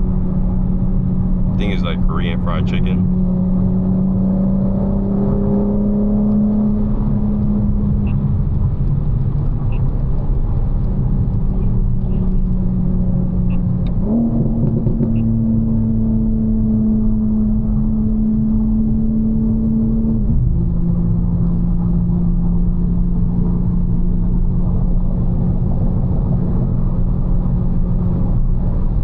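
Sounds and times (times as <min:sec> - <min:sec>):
road noise: 0:00.0 - 0:29.0
car engine revving while driving: 0:03.0 - 0:29.0.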